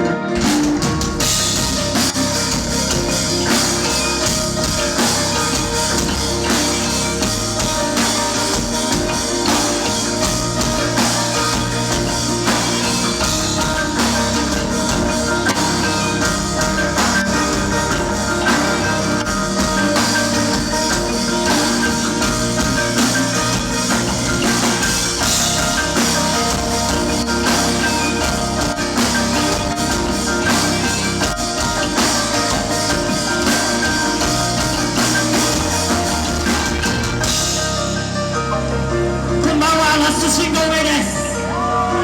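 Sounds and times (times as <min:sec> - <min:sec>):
bell-like melodic tones: 0:00.0 - 0:42.0
rock band playing: 0:00.0 - 0:42.0.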